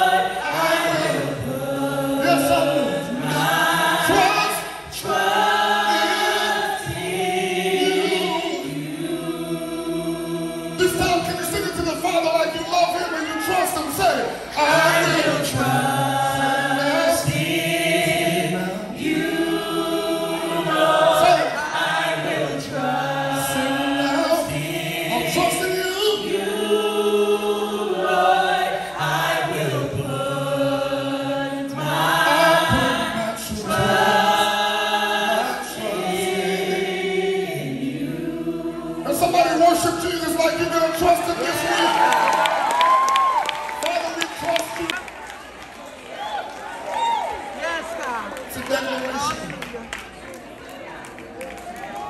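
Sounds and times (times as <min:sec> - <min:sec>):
gospel group singing harmonies: 0:00.0 - 0:44.9.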